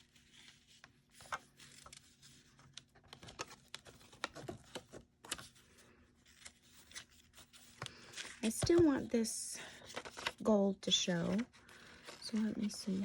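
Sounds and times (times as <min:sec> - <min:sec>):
paper rustling: 0:00.0 - 0:09.1, 0:09.7 - 0:13.0.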